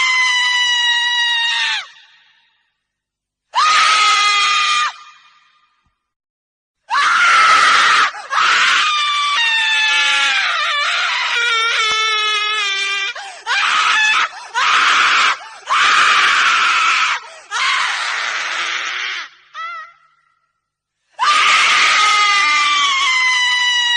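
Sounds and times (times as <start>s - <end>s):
woman screaming: 0.0s - 2.1s, 3.6s - 5.3s, 6.9s - 20.2s, 21.2s - 23.9s.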